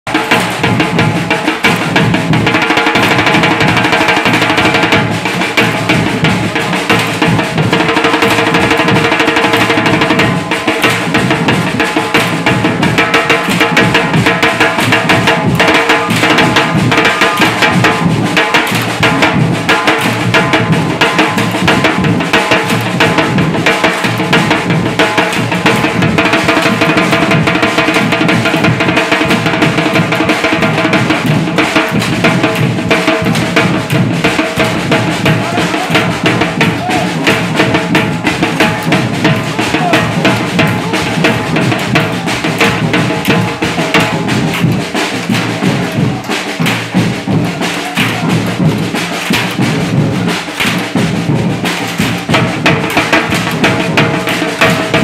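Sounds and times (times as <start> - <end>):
drums played fast: 0.0 - 55.0.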